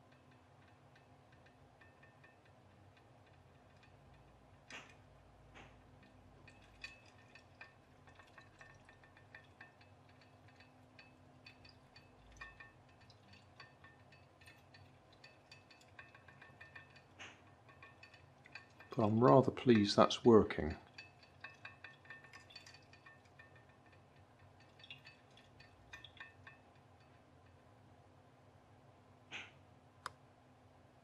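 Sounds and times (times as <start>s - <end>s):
pop-pop boat clicking: 0.0s - 27.6s.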